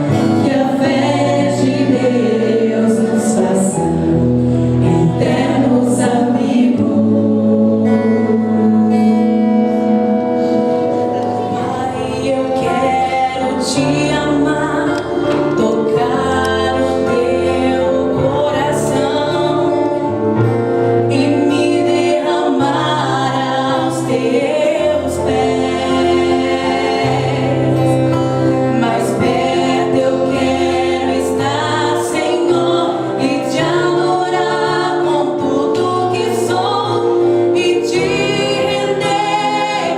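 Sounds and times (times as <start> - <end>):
vocal group singing in harmony: 0.0 - 39.9.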